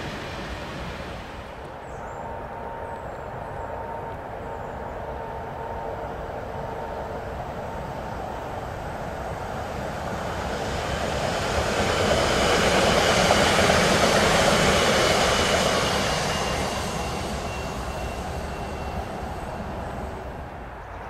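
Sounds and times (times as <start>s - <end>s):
faint high whine: 0.0s - 21.0s
train wheels rolling on rails: 0.0s - 21.0s.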